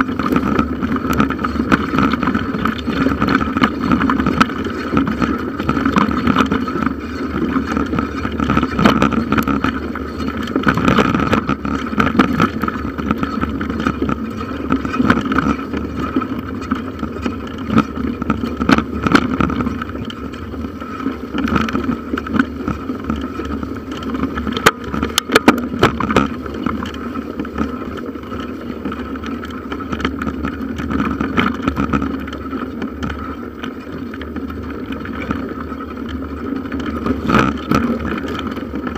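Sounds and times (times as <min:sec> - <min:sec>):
bicycle frame rattle: 0:00.0 - 0:38.9
bicycle tyres on forest trail: 0:00.0 - 0:38.9.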